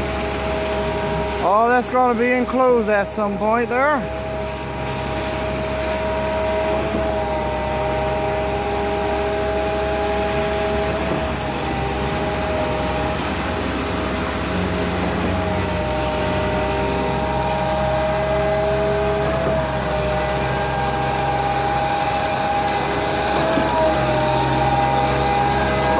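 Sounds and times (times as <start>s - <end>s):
machinery droning with whining tones: 0.0s - 25.9s.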